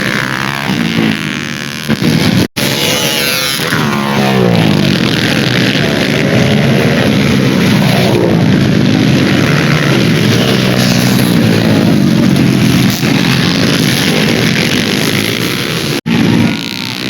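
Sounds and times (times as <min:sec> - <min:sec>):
loud rushing noise: 0:00.0 - 0:17.0
motorcycle engines revving: 0:00.0 - 0:17.0.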